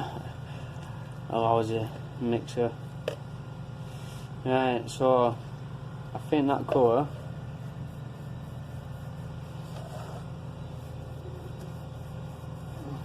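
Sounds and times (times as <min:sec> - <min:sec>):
steady low motor drone: 0:00.0 - 0:13.0.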